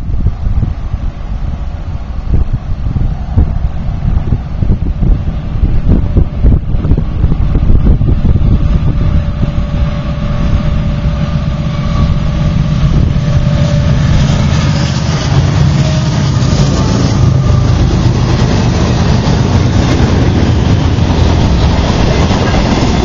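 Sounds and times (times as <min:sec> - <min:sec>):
diesel locomotive engine drone: 0:00.0 - 0:23.0
wind buffeting microphone: 0:00.0 - 0:23.0
steady tone: 0:01.2 - 0:23.0.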